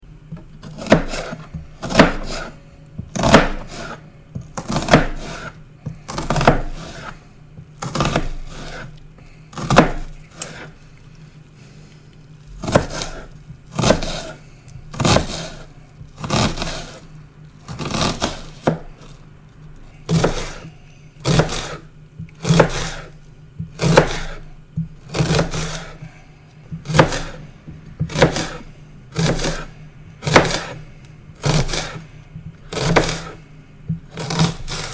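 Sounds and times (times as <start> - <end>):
knife chopping on cutting board: 0.3 - 10.8, 12.6 - 17.0, 17.7 - 19.1, 20.1 - 34.9.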